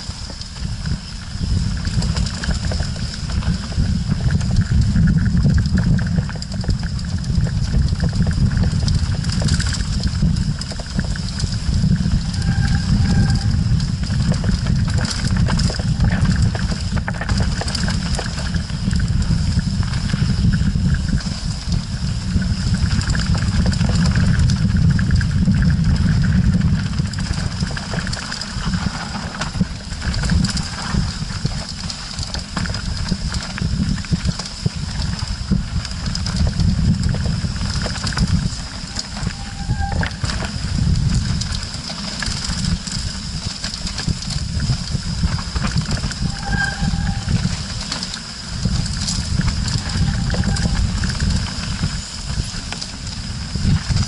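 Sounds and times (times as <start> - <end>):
bike rattling over stones: 0.0 - 54.0
wind and vibration rumble: 0.0 - 54.0.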